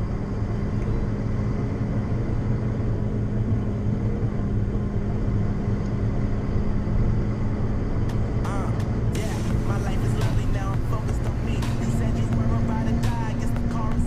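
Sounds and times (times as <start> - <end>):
road noise: 0.0 - 14.0
truck diesel engine droning: 0.0 - 14.0.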